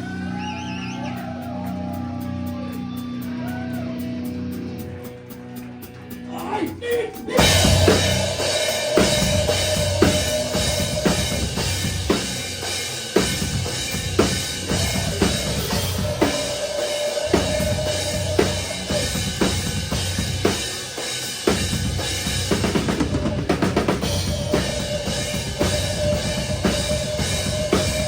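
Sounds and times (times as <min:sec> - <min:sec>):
metalcore band playing: 0:00.0 - 0:28.0.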